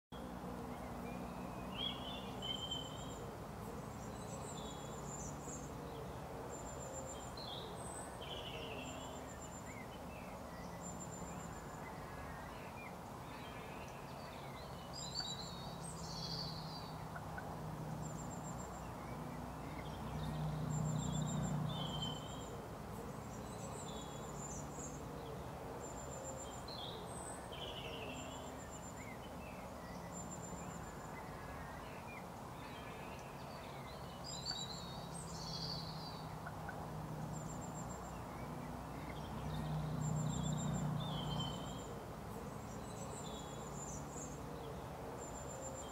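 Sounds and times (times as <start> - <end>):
small birds singing: 0.1 - 45.9.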